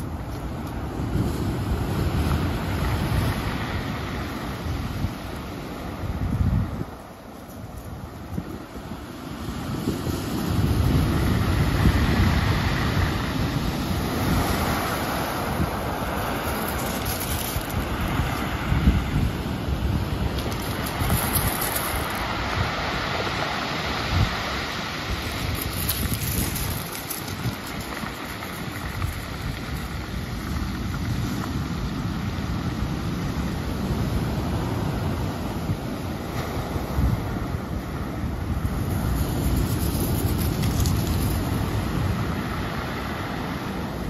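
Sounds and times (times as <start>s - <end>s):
ocean surf breaking on rocks: 0.0s - 44.0s
wind buffeting microphone: 0.0s - 44.0s.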